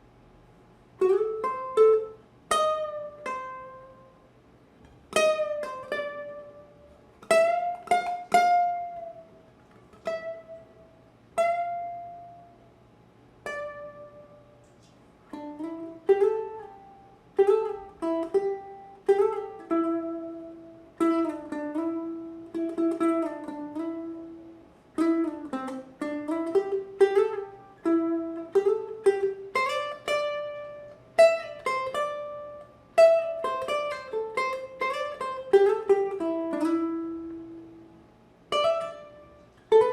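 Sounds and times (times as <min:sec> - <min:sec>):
ukulele plucked melody: 0:01.0 - 0:04.2, 0:04.8 - 0:12.7, 0:13.4 - 0:39.9.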